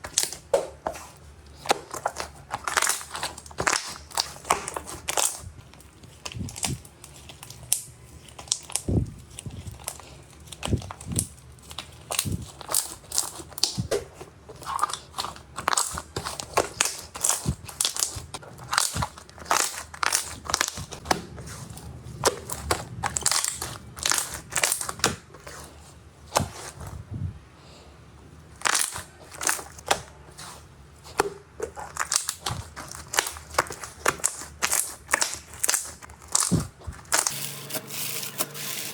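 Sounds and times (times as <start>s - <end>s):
slime crackling and popping: 0.0s - 0.8s, 1.5s - 25.6s, 28.5s - 30.5s, 31.1s - 37.4s.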